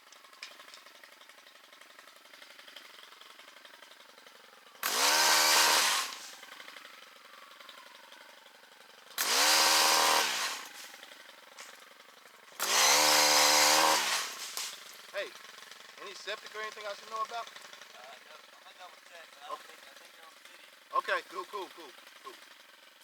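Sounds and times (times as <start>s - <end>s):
chainsaw revving: 0.2s - 23.0s.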